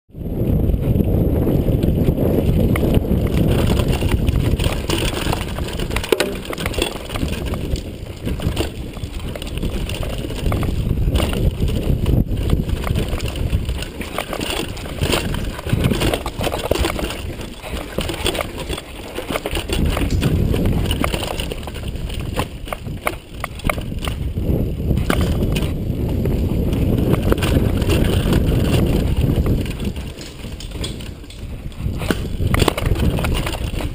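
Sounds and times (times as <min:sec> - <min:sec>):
bike rattling over rough ground: 0:00.1 - 0:33.9
wind and tyres on dirt: 0:00.1 - 0:33.9.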